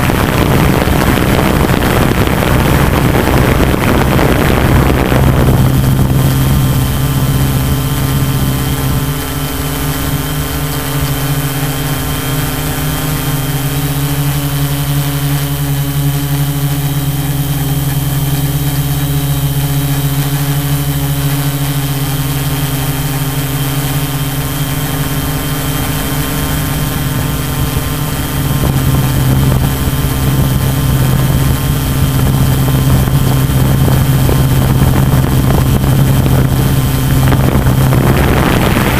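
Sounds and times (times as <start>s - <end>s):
drone motors and propellers humming: 0.0s - 38.9s.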